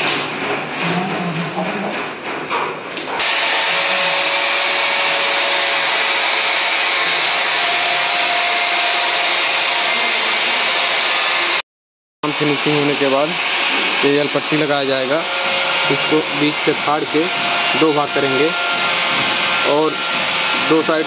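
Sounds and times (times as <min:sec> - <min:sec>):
electric power tool running: 0:03.2 - 0:11.6, 0:12.3 - 0:21.0.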